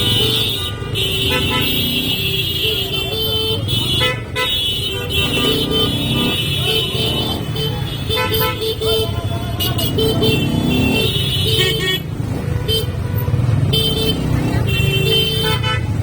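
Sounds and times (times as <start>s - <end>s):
motorcycle engine and road noise: 0.0s - 16.0s.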